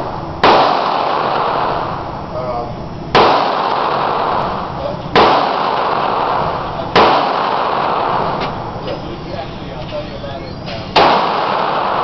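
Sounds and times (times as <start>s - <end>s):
pistol shots with echo: 0.0s - 2.2s, 3.1s - 12.0s.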